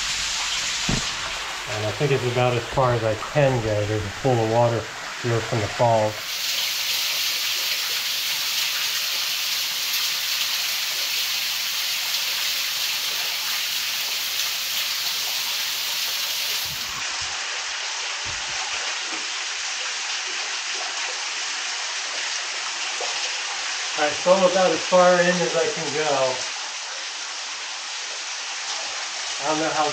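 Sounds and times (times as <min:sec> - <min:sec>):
waterfall splashing into pool: 0:00.0 - 0:29.9.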